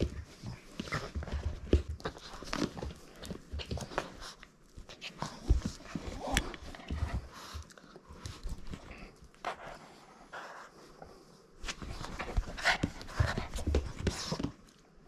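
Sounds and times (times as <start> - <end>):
paws tapping and thumping: 0.0 - 9.1, 11.7 - 14.8.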